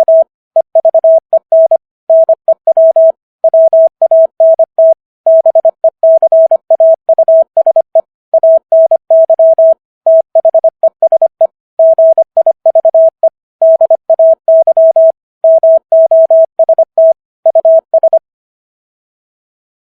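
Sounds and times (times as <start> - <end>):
morse code tones: 0.0 - 18.2.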